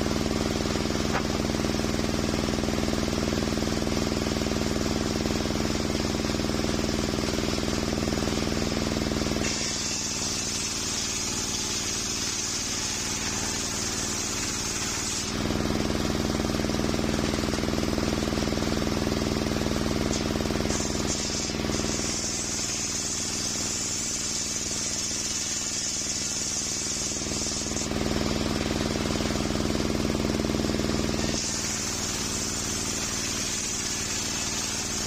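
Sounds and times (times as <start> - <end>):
saw cutting wood board: 0.0 - 2.4, 5.6 - 16.9, 19.5 - 35.0
circular saw running: 0.0 - 35.0.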